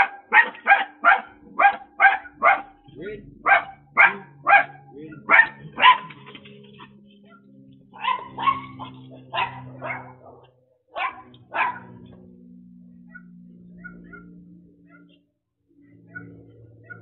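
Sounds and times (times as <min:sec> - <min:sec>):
small dog barking: 0:00.0 - 0:02.8, 0:03.4 - 0:06.4, 0:07.2 - 0:12.2, 0:13.0 - 0:15.2, 0:16.0 - 0:17.0
faint low hum: 0:00.0 - 0:17.0.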